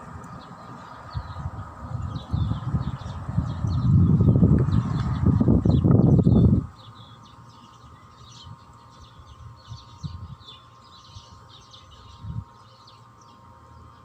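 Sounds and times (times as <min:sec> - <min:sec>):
faint steady hum: 0:00.0 - 0:14.0
small birds chirping: 0:00.2 - 0:14.0.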